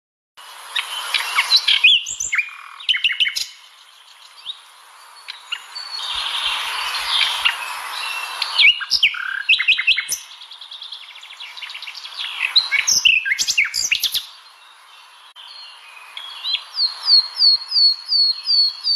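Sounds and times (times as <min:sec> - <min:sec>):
nightingale singing: 0:00.6 - 0:18.9.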